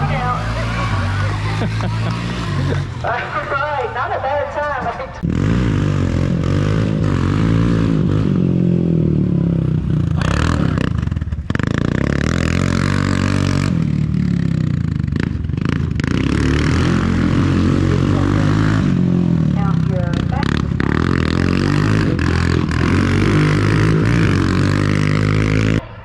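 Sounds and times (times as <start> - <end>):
quad bike engine revving: 0.0 - 4.2, 5.2 - 26.0.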